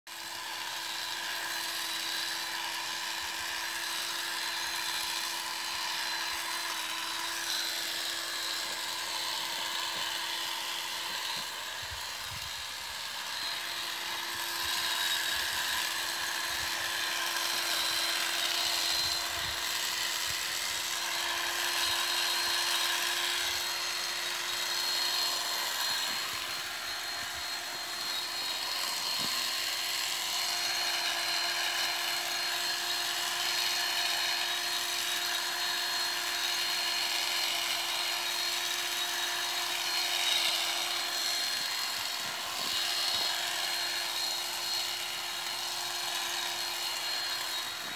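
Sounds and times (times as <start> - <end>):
electric cutting tool running: 0.1 - 47.9.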